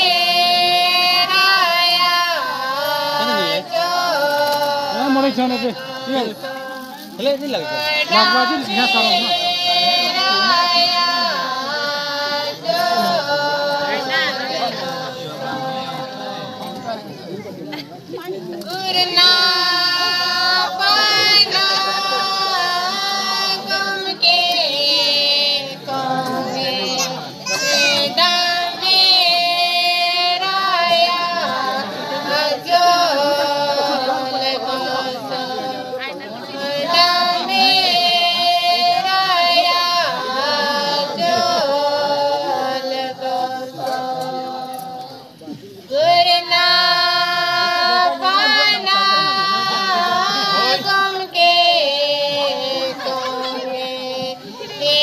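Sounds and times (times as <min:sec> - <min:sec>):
voices singing slow melody: 0:00.0 - 0:55.0.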